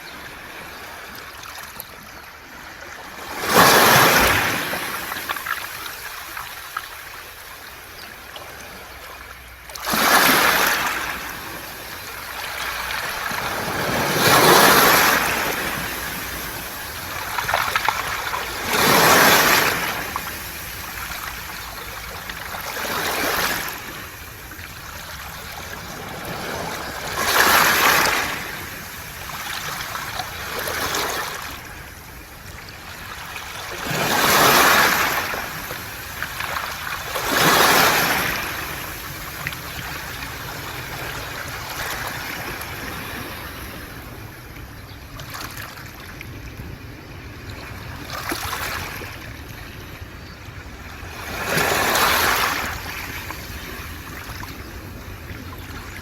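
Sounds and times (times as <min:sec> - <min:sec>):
waves washing over pebbles: 0:03.0 - 0:44.5, 0:47.8 - 0:49.4, 0:50.8 - 0:56.0.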